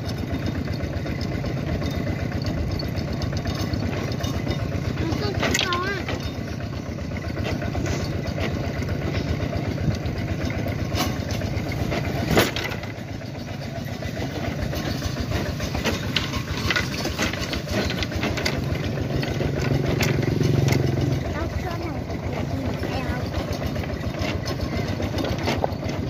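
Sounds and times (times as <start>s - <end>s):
rattles: 0.0s - 26.0s
small vehicle engine running: 0.0s - 26.0s.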